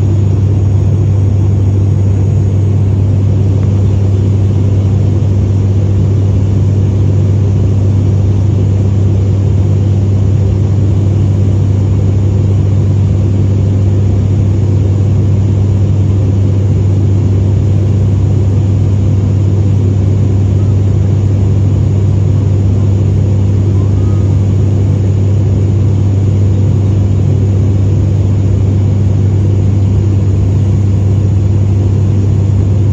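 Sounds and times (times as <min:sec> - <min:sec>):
aircraft engine drone: 0:00.0 - 0:32.9.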